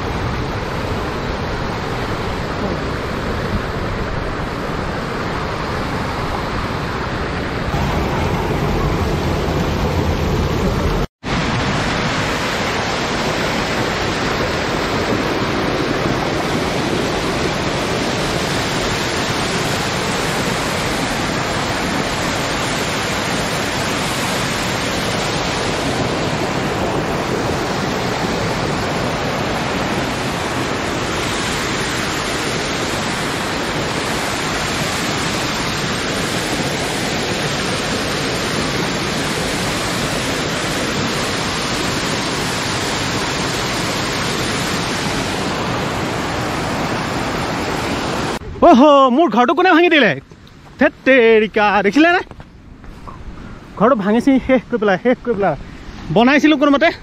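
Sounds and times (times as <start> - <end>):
waterfall crashing over rocks: 0.0 - 52.2.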